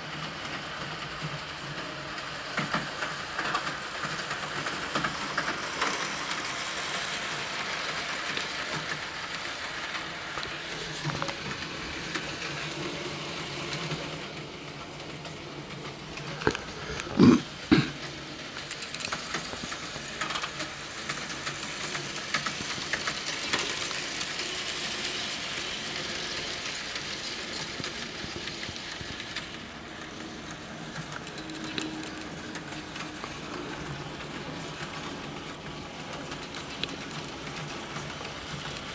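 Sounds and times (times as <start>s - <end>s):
model train wheels rattling: 0.0s - 38.9s.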